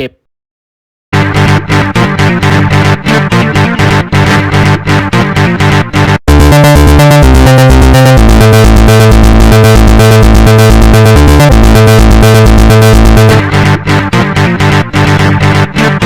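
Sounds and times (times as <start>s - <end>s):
electronic music with synthesizer: 1.2s - 16.0s.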